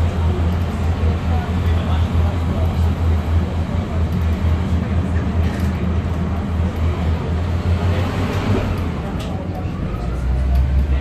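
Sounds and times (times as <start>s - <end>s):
diesel engine droning: 0.0s - 11.0s
wheel and rail rumble: 0.0s - 11.0s.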